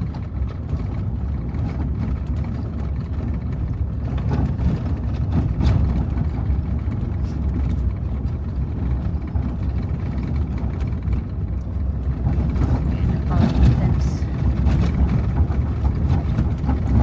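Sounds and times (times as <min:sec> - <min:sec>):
vehicle driving on dirt road: 0:00.0 - 0:17.0.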